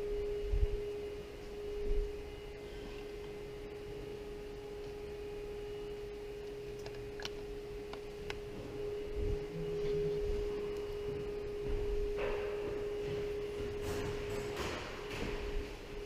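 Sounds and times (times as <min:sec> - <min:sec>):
steady pure tone: 0:00.0 - 0:16.0.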